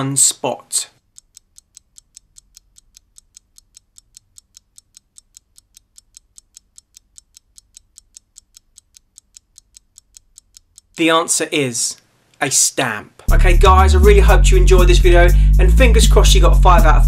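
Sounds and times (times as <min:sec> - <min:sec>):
fast clock ticking: 0:01.0 - 0:11.0, 0:13.3 - 0:17.0.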